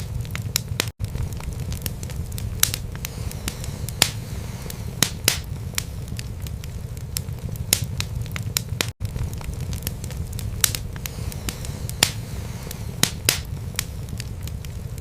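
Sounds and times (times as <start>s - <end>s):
low rumble of flames: 0.0s - 15.0s
sharp fire pops: 0.0s - 15.0s
wood fire crackling: 0.0s - 15.0s.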